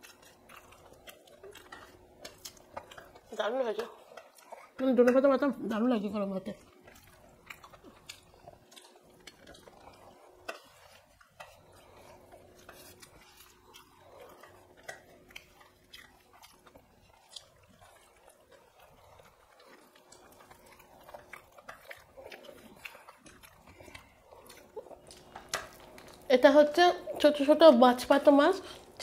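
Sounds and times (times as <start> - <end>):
chewing and mouth clicks: 0.0 - 29.0
faint steady hum: 0.0 - 29.0.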